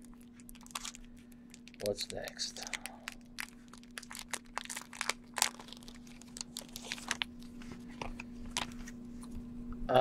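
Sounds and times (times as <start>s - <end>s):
paper wrapping crinkling: 0.0s - 9.0s
faint steady hum: 0.0s - 10.0s.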